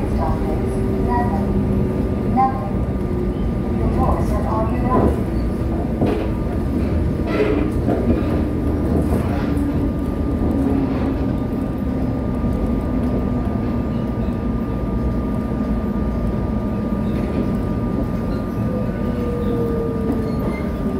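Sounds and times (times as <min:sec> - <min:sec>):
train wheels rumbling: 0:00.0 - 0:20.9.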